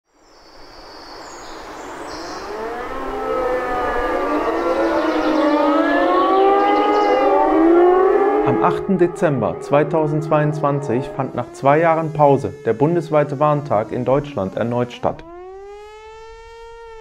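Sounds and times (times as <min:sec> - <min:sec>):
sirens wailing: 0:01.6 - 0:17.0.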